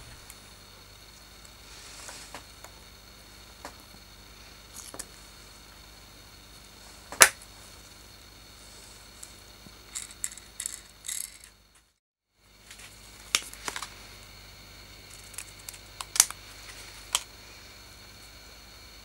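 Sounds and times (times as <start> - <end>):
faint background hum: 0.0 - 19.0.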